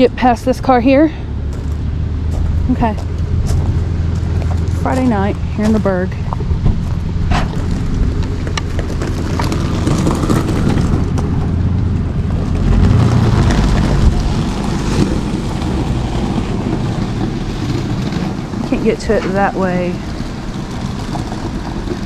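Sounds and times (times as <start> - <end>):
truck engine and tyre noise: 0.0 - 22.0.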